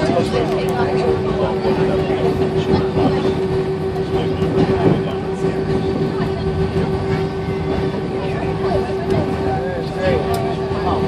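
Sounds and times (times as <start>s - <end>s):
airplane cabin hum: 0.0s - 11.0s
faint passenger chatter: 0.0s - 11.0s.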